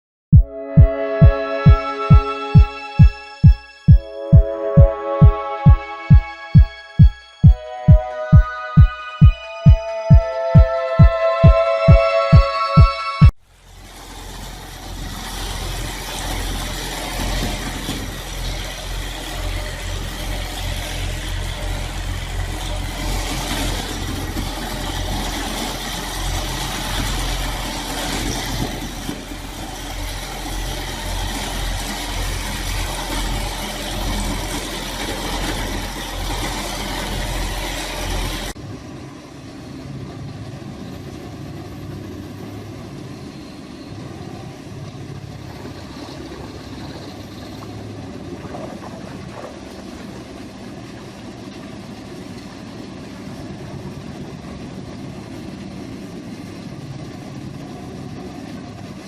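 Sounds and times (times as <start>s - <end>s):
diesel engines running: 0.8s - 59.0s.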